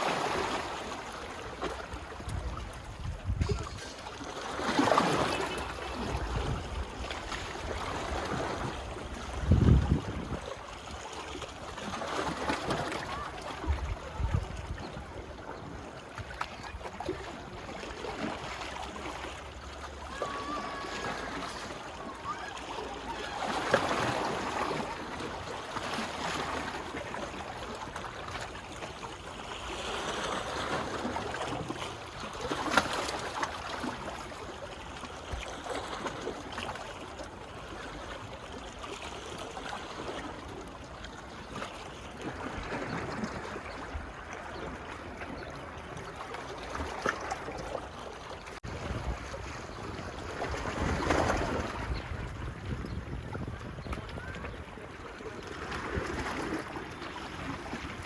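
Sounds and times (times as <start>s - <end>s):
small waves lapping on beach: 0.0s - 58.0s.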